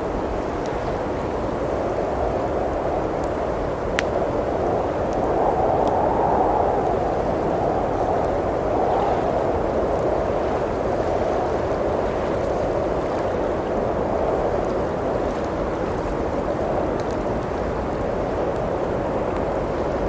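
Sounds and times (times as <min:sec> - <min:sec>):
blizzard wind blowing: 0:00.0 - 0:20.0
faint wood fire crackles: 0:00.0 - 0:20.0.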